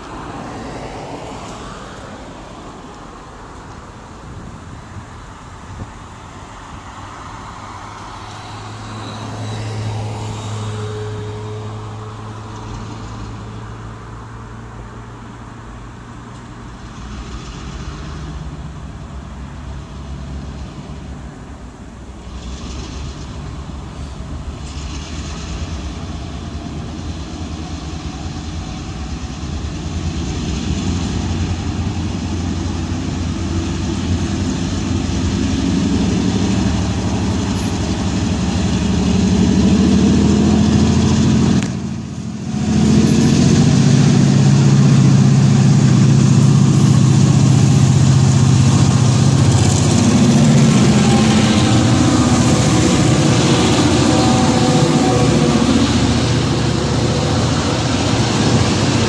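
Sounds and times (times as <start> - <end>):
diesel locomotive humming: 0.0 - 59.0.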